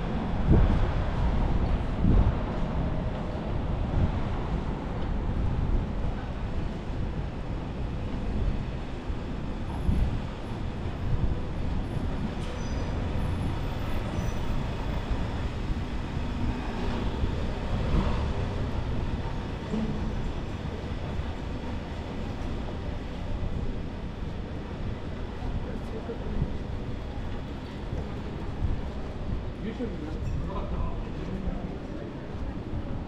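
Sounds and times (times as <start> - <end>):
tram rumbling along street: 0.0 - 33.0.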